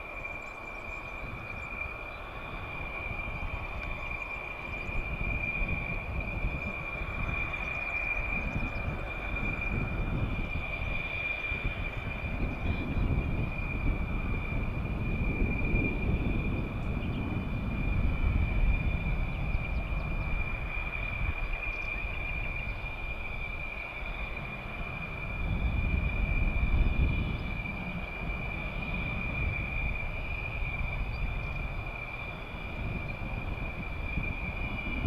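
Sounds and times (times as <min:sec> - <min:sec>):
distant jet engine rumble: 0:00.0 - 0:35.0
steady high whine: 0:00.0 - 0:35.0.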